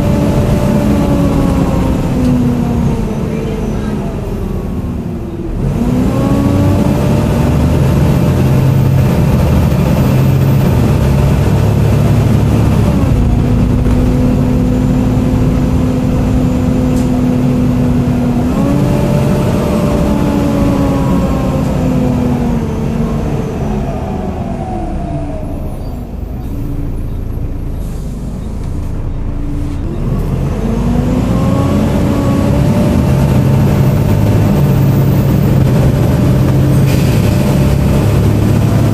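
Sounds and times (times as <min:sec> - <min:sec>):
diesel bus engine rumbling: 0:00.0 - 0:38.9
drivetrain whine: 0:00.0 - 0:38.9.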